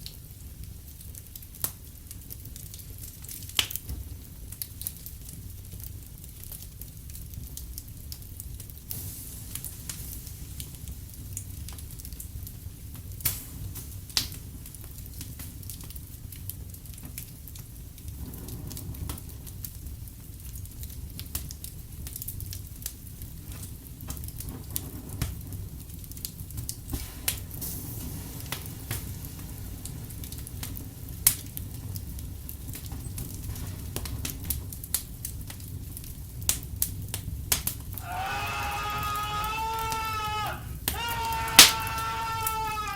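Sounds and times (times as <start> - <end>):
fire crackling: 0.0 - 42.9
low rumble of flames: 0.0 - 42.9.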